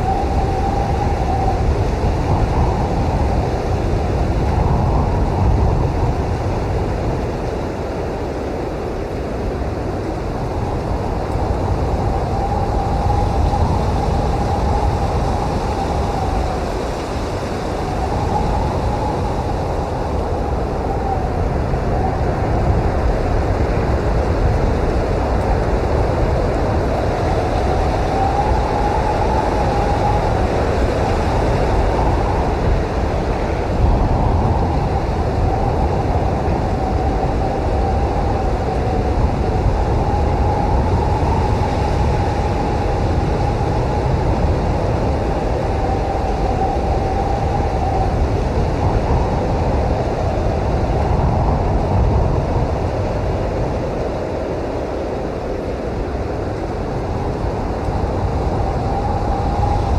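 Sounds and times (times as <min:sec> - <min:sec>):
blizzard wind blowing: 0:00.0 - 0:59.9
wind howling: 0:00.0 - 0:59.9.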